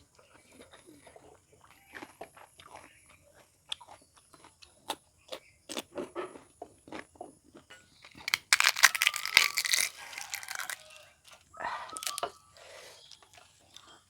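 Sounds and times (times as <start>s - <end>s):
crisp food crunching: 0.0s - 14.0s.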